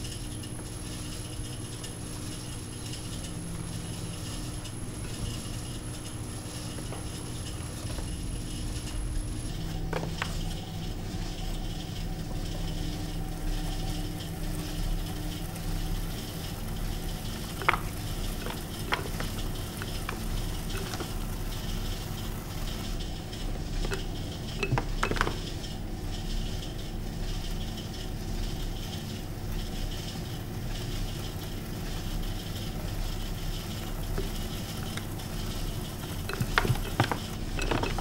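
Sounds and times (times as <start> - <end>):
potter's wheel humming: 0.0 - 38.0.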